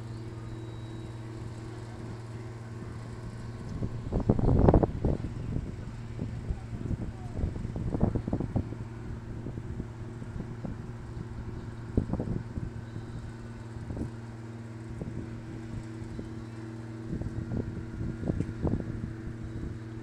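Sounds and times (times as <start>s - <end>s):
low machine hum: 0.0s - 20.0s
wind buffeting microphone: 1.7s - 14.2s, 14.8s - 16.4s, 17.0s - 20.0s.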